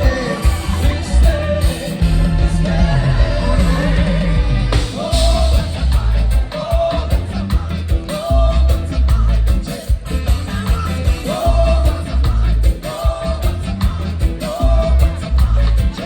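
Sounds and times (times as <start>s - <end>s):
person singing: 0.0s - 16.0s
reggae band playing: 0.0s - 16.0s.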